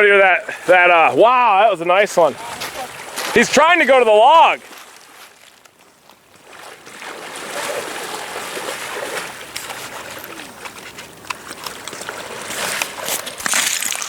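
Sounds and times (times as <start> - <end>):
water rushing and splashing: 0.0 - 14.0.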